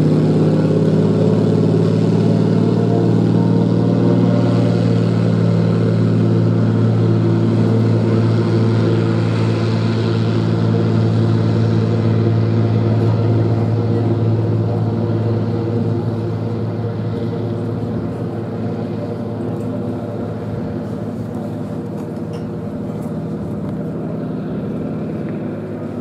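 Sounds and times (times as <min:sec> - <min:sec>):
propeller plane engine at full power: 0:00.0 - 0:26.0.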